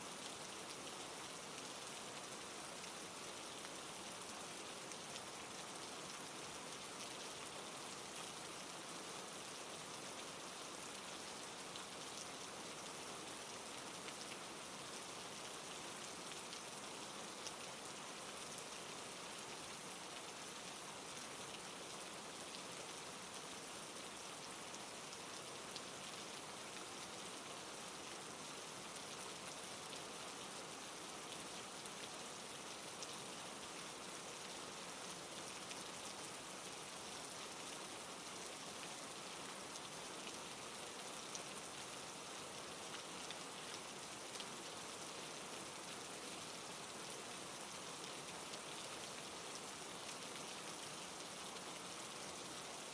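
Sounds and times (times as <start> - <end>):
steady rain hiss: 0.0 - 52.9.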